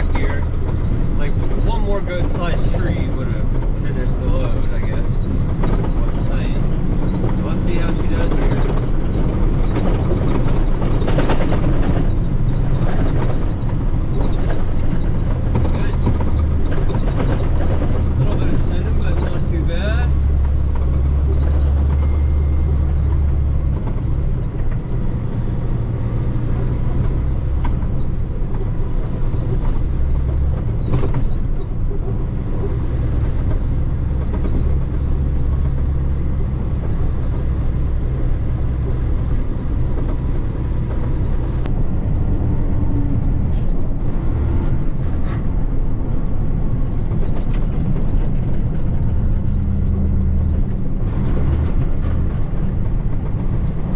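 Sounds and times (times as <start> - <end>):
diesel truck engine drone: 0.0 - 53.9.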